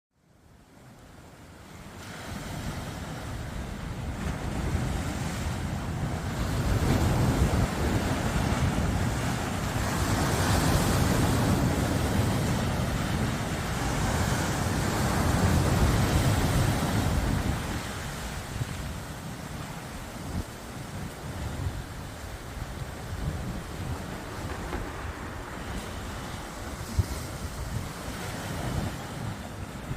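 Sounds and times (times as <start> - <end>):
waves breaking on shore: 0.5 - 29.9
wind buffeting microphone: 2.2 - 29.9.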